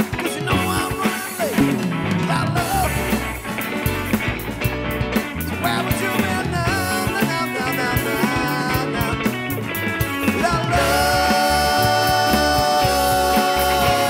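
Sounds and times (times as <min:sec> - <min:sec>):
man singing: 0:00.0 - 0:03.4, 0:05.5 - 0:09.6, 0:10.2 - 0:14.0
rock band playing: 0:00.0 - 0:14.0.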